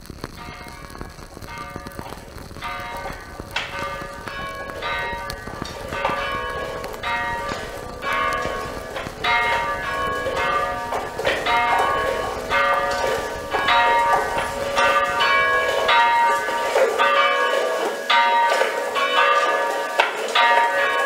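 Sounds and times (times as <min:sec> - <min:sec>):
church bells ringing: 0:00.3 - 0:21.0.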